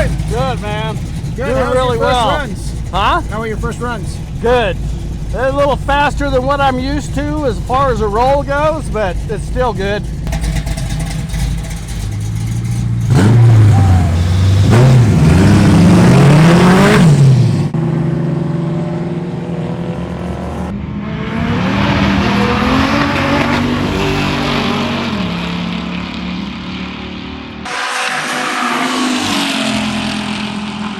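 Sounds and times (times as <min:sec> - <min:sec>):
car engines at full throttle: 0:00.0 - 0:30.9.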